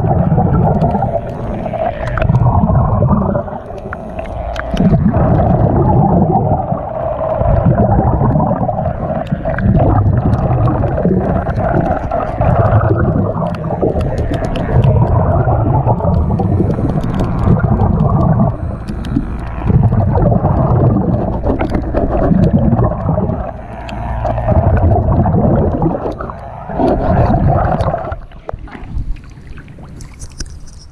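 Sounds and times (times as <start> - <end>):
bubbling exhalations: 0.0 - 30.5.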